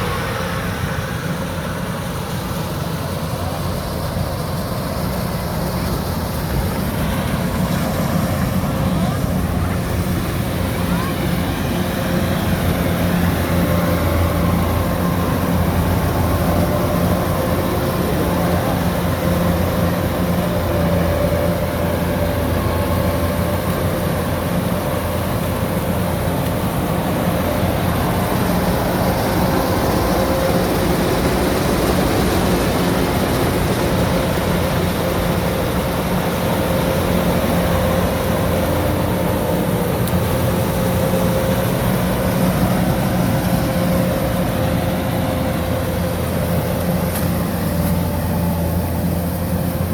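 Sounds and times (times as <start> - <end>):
combine harvester droning: 0.0 - 49.9.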